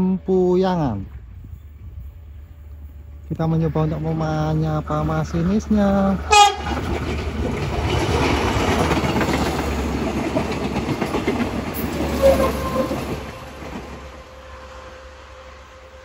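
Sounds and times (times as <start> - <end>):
train wheels on rails: 1.0 - 16.0.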